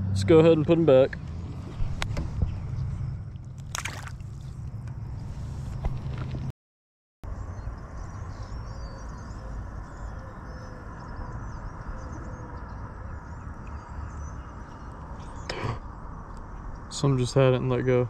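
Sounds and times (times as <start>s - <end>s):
birds chirping and twittering: 1.2s - 6.3s, 7.3s - 18.0s.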